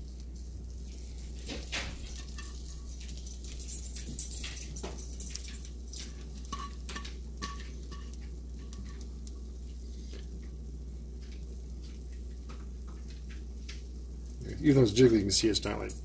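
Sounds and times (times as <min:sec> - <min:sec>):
eggs sizzling in a pan: 0:00.0 - 0:15.6.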